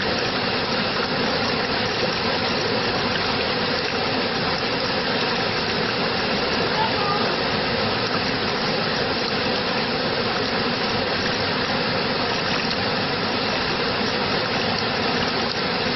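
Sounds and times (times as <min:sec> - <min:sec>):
rushing water: 0:00.0 - 0:15.9.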